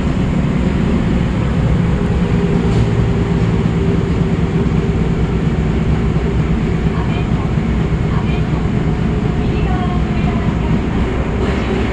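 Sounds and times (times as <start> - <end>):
subway train rumbling: 0.0 - 11.9.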